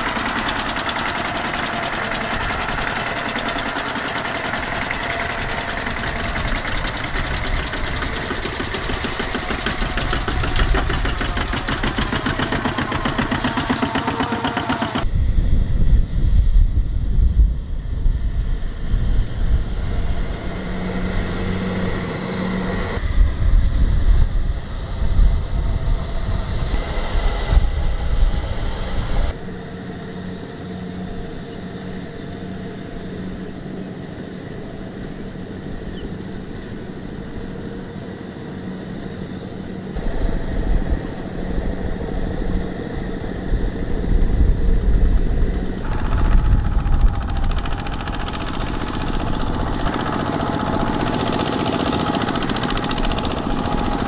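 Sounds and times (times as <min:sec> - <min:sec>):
tractor diesel engines under load: 0:00.0 - 0:15.1, 0:18.4 - 0:23.1, 0:24.6 - 0:54.0.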